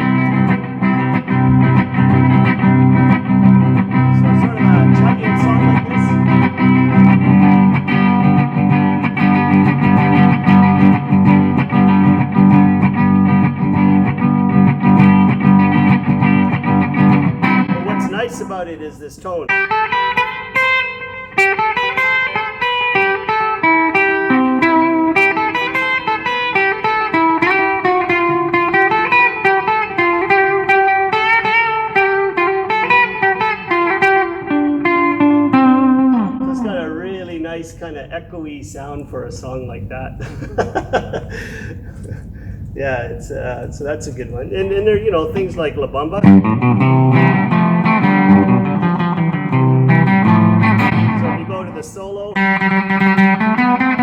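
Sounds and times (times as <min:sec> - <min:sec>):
electric guitar chugging rhythm: 0:00.0 - 0:38.1, 0:44.4 - 0:54.0.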